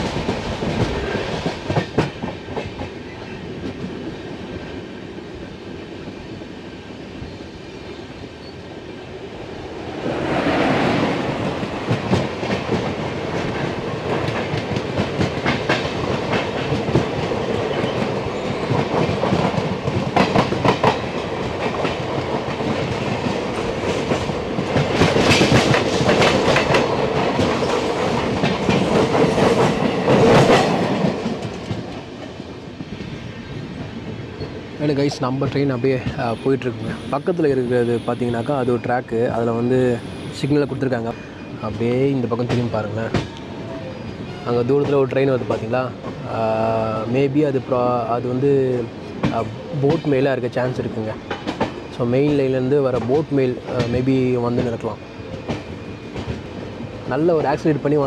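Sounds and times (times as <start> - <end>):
passing train hum: 0.0 - 58.0
train wheel and track noise: 0.0 - 58.0.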